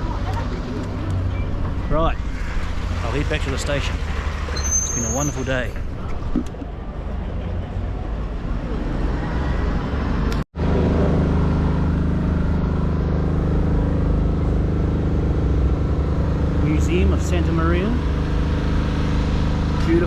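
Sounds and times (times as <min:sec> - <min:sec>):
steady engine hum: 0:00.0 - 0:20.0
vehicle engines over road noise: 0:00.0 - 0:20.0.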